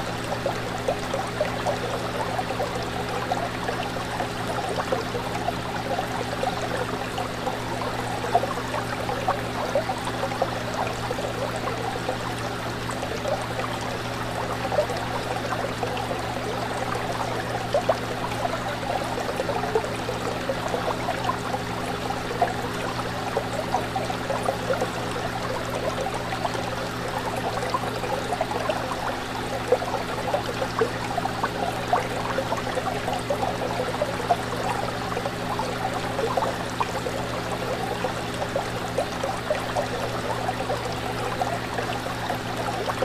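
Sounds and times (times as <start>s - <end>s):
aquarium water bubbling: 0.0s - 43.0s.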